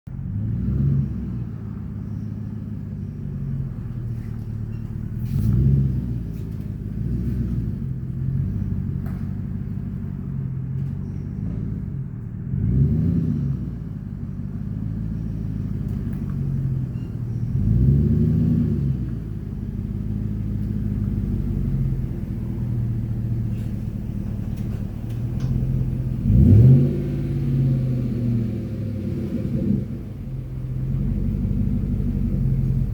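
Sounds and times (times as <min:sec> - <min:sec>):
pickup truck engine idling and revving: 0:00.1 - 0:32.9.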